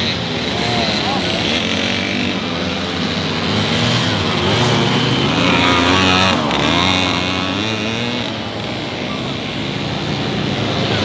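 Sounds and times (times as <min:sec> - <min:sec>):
motorbike engines revving: 0:00.0 - 0:11.0.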